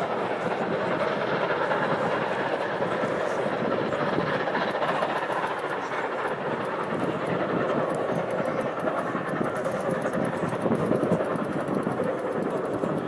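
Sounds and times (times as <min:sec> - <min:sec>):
steam locomotive passing: 0:00.0 - 0:13.0.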